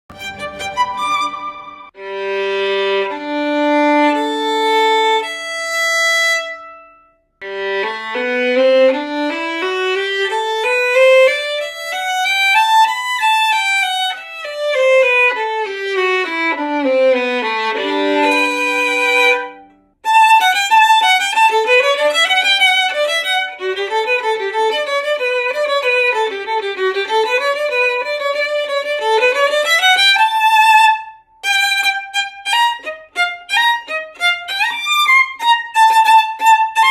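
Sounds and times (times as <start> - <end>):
bowed solo violin: 0.0 - 36.9.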